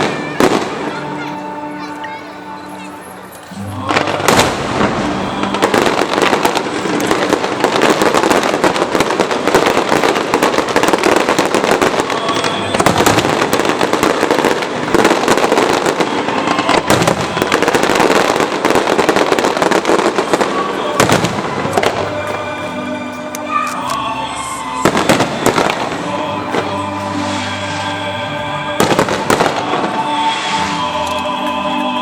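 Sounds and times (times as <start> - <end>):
fireworks bangs and crackles: 0.0 - 2.2, 2.8 - 32.0.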